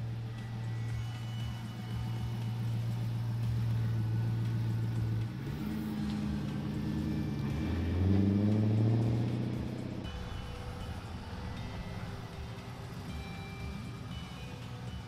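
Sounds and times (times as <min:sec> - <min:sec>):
car engine driving off: 0:00.0 - 0:15.0.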